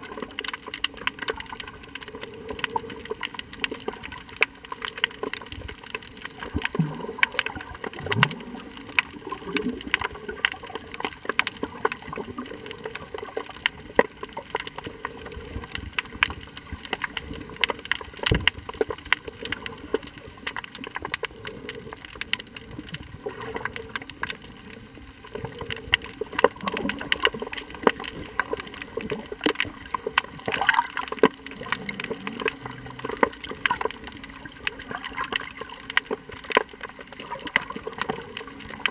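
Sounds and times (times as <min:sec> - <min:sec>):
crackle of sharp clicks: 0:00.0 - 0:38.9
low gurgles: 0:00.0 - 0:38.9
underwater water noise: 0:00.0 - 0:38.9.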